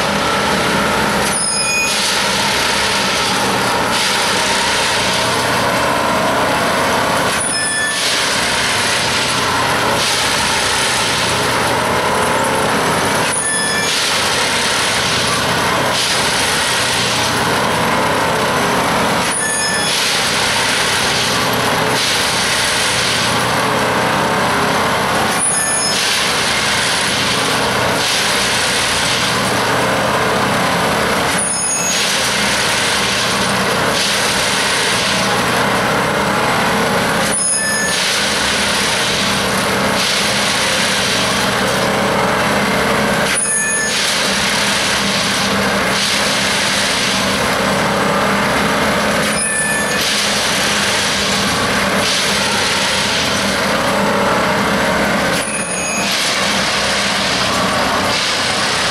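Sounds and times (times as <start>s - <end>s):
track tamping machine working: 0.0s - 58.9s.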